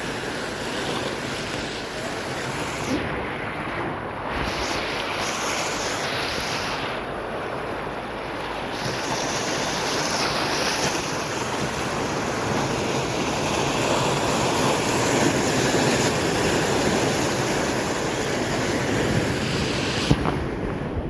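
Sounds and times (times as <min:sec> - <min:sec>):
ocean surf breaking: 0:00.0 - 0:21.0.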